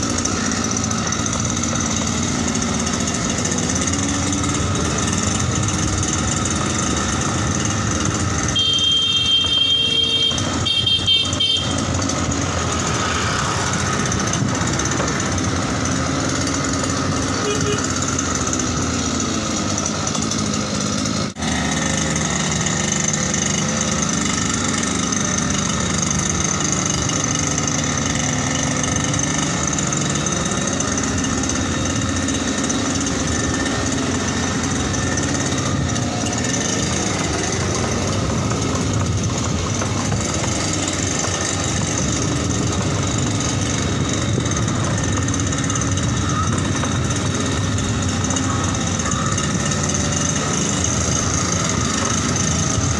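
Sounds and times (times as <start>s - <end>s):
two-stroke engine running: 0.0s - 52.9s.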